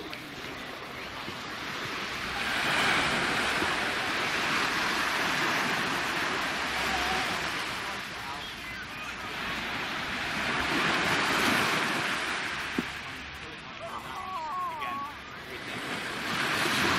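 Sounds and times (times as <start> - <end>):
small waves breaking on beach: 0.0 - 16.9.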